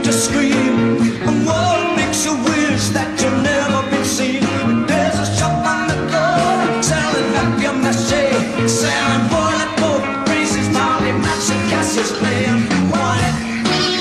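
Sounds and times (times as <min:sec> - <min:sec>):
rock song with singer and band: 0:00.0 - 0:14.0.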